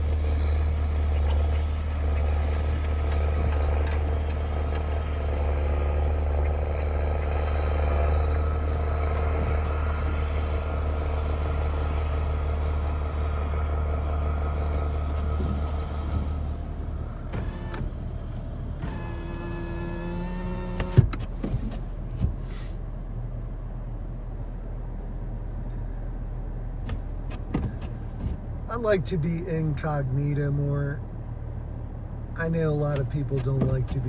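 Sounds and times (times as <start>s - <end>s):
engine whine: 0.0s - 34.0s
vehicle engine droning: 0.0s - 34.0s.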